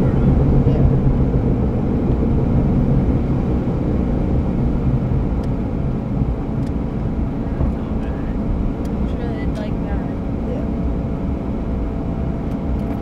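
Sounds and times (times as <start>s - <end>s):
low wheel drone: 0.0s - 13.0s
road rumble: 0.0s - 13.0s
strong low hum: 0.0s - 13.0s.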